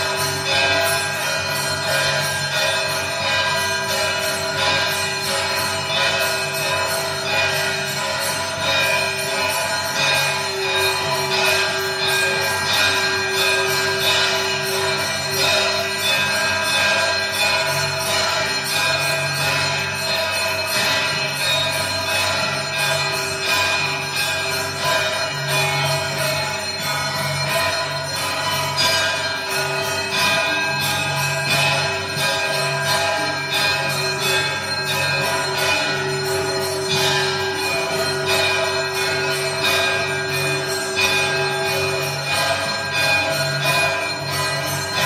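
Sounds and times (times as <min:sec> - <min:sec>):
temple bells ringing: 0:00.0 - 0:45.0.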